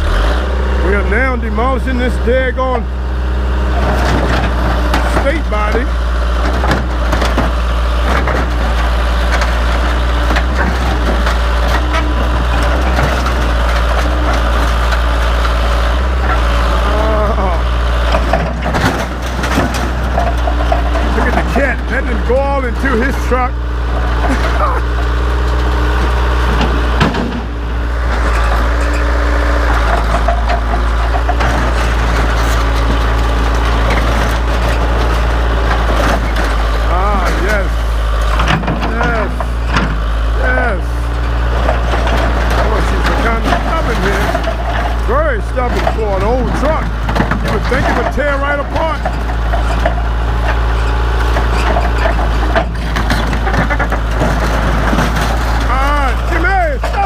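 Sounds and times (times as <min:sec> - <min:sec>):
backhoe engine running: 0:00.0 - 0:57.0
metal cracking and crunching: 0:00.0 - 0:57.0.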